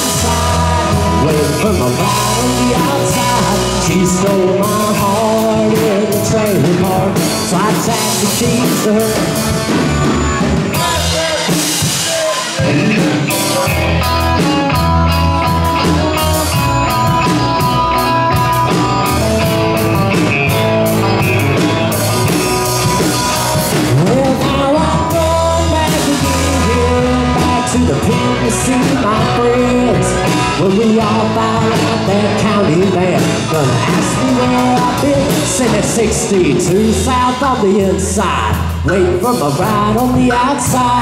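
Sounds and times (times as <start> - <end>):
bass guitar: 0.0 - 41.0
drum kit: 0.0 - 41.0
electric guitars: 0.0 - 41.0.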